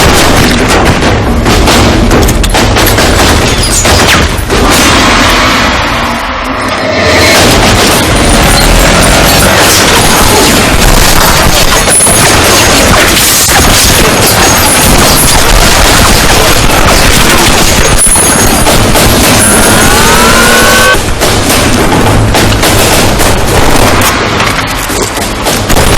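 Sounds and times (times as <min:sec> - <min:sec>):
gunfire bursts: 0:00.0 - 0:05.4, 0:07.3 - 0:25.9
crashes: 0:00.0 - 0:25.9
explosions: 0:00.0 - 0:25.9
sharp hits: 0:00.0 - 0:25.9.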